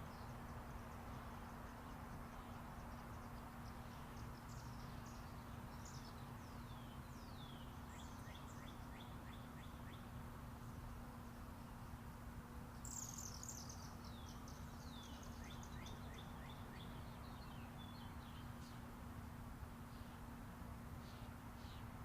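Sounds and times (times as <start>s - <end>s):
songbird chirping: 0.0s - 19.0s, 21.0s - 22.0s
distant highway traffic rumble: 0.0s - 22.0s.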